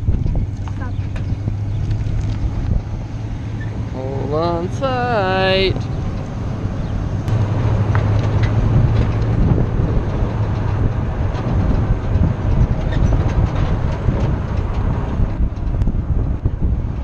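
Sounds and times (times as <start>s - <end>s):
trailer rattling: 0.0s - 17.0s
tyre road rumble: 0.0s - 17.0s.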